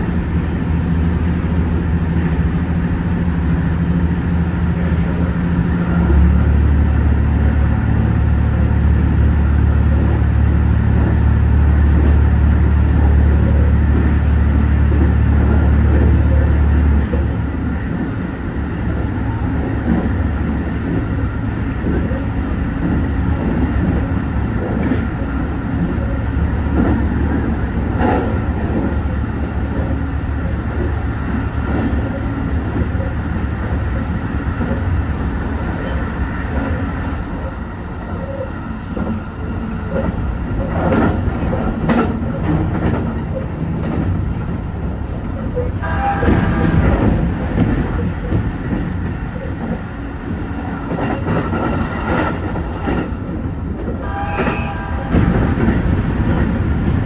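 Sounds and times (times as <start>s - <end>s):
train rumbling at speed: 0.0s - 57.0s.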